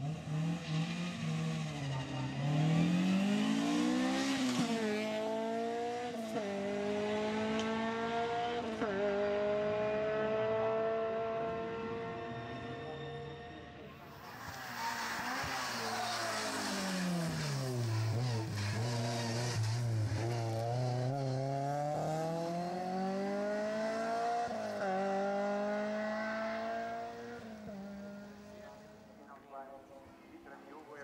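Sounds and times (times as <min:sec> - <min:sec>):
race car engine: 0:00.0 - 0:31.0.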